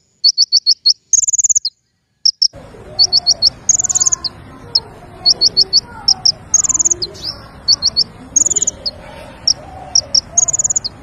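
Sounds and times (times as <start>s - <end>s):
distant lower bird calls: 0.0s - 11.0s
songbird chirping and trilling: 0.0s - 11.0s.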